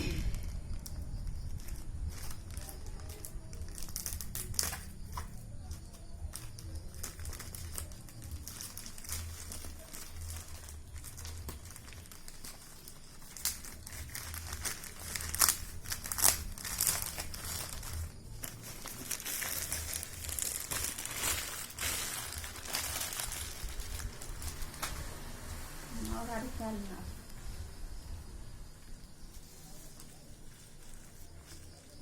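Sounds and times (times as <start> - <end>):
packaging crinkling and rustling: 0.0 - 27.0, 29.2 - 32.0.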